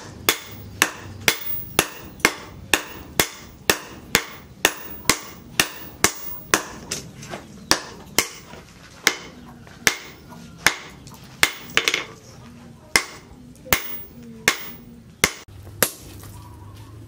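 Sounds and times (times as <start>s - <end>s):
hammer striking hot steel on anvil: 0.0s - 7.0s, 7.7s - 12.1s, 13.0s - 16.1s.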